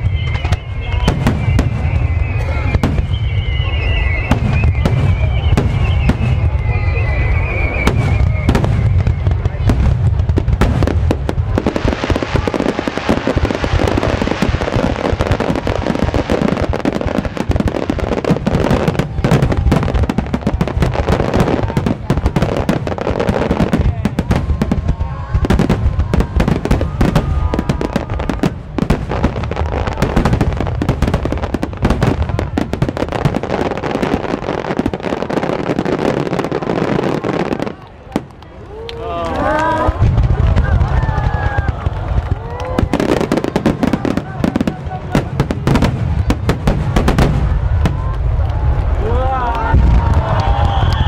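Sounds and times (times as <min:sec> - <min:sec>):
fireworks booming and crackling: 0:00.0 - 0:51.0.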